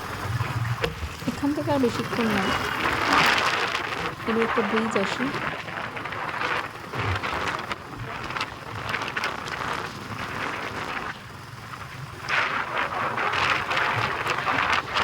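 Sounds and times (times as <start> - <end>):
motorcycle engine and road rumble: 0.0 - 15.0
wind rushing over microphone: 0.0 - 15.0.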